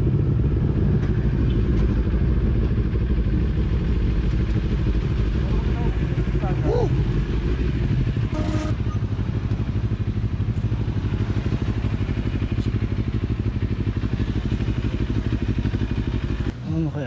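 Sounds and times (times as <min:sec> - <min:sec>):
motorcycle engine idling: 0:00.1 - 0:17.0.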